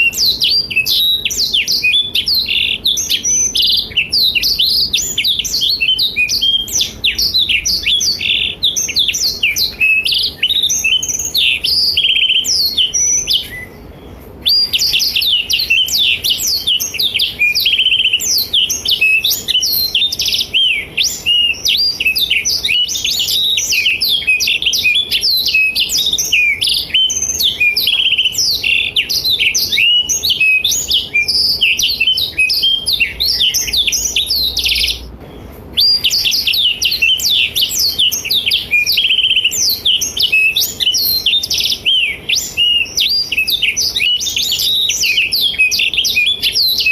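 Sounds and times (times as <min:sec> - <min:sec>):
bird singing high twittering song: 0:00.0 - 0:46.9.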